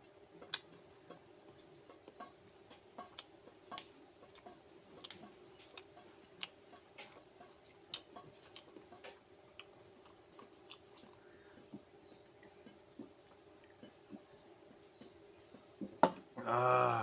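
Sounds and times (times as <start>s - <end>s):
person chewing food: 0.0s - 16.4s.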